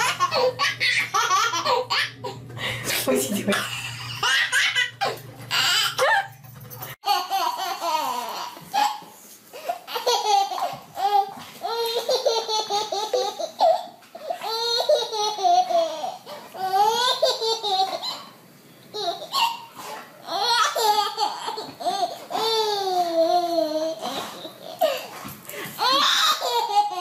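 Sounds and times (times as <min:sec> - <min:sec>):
baby laughing: 0:00.0 - 0:02.4, 0:03.5 - 0:06.3, 0:07.0 - 0:18.4, 0:19.0 - 0:25.2, 0:25.8 - 0:27.0.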